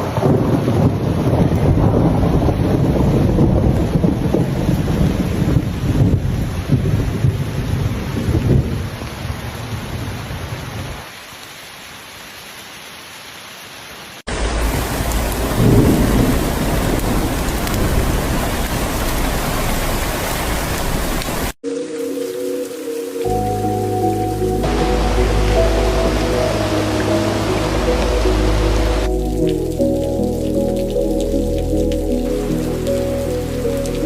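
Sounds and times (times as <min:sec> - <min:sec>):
thunder rumbling: 0:00.0 - 0:10.2, 0:14.3 - 0:21.5, 0:23.3 - 0:34.0
heavy rain: 0:00.0 - 0:34.0.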